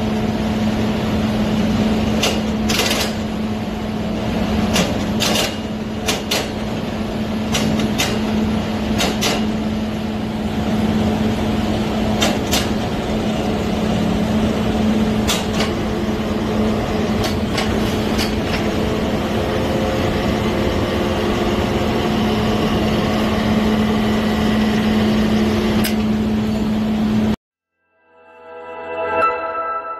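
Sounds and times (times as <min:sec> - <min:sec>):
hoist machine hum: 0:00.0 - 0:27.4.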